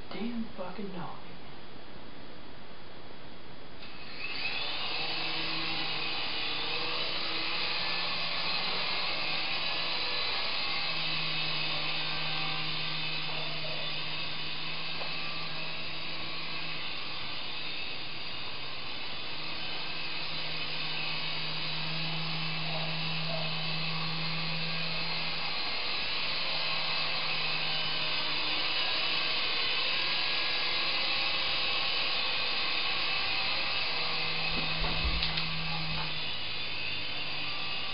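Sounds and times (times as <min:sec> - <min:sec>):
remote-control helicopter whirring: 0:03.8 - 0:37.9.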